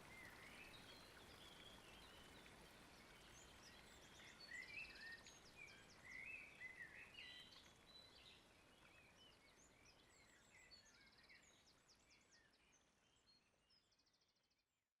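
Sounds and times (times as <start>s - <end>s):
low steady hiss: 0.0s - 14.3s
faint songbirds chirping: 0.0s - 14.5s.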